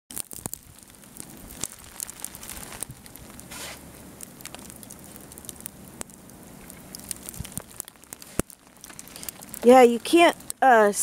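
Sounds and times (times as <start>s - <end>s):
snow ticking against camera: 0.1s - 11.0s.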